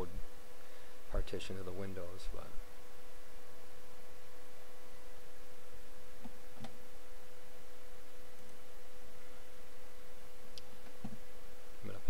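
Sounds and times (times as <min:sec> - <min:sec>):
background hiss: 0:00.0 - 0:12.0
steady electrical tone: 0:00.0 - 0:12.0.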